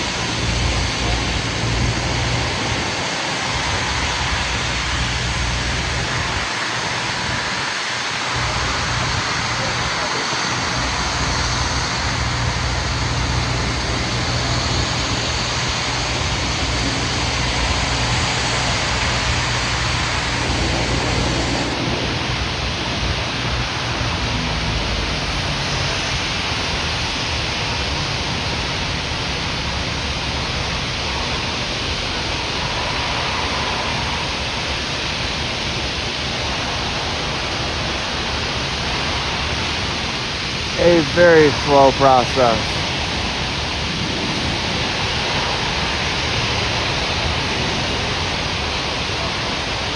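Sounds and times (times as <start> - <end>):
low steady drone: 0.0 - 49.9.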